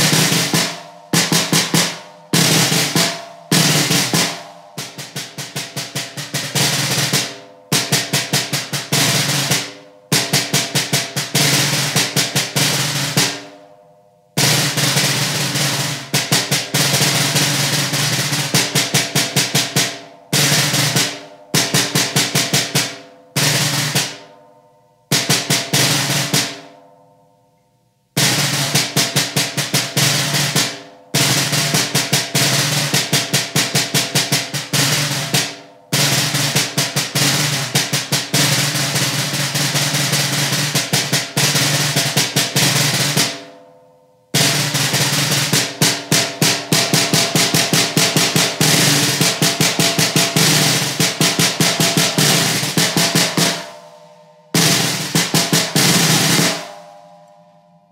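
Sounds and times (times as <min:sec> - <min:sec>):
snare drum rolls: 0:00.0 - 0:13.6, 0:14.4 - 0:24.4, 0:25.1 - 0:26.7, 0:28.2 - 0:43.5, 0:44.4 - 0:56.9.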